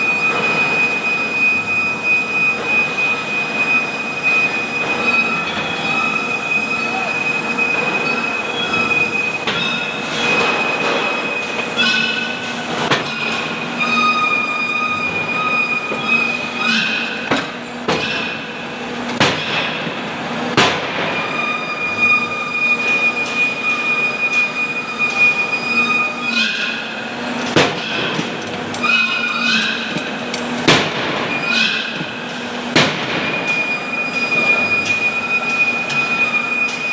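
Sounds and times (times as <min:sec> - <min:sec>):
machinery high-pitched whine: 0:00.0 - 0:19.1, 0:20.9 - 0:36.9.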